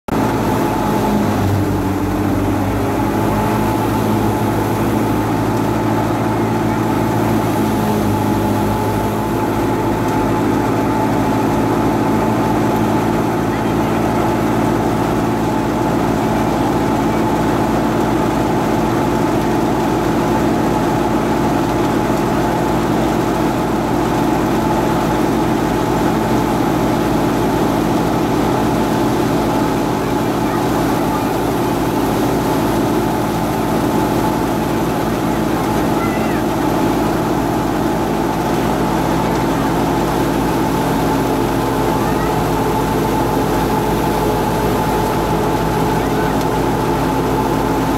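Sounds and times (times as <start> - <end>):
thresher mechanical drone: 0.1 - 47.9.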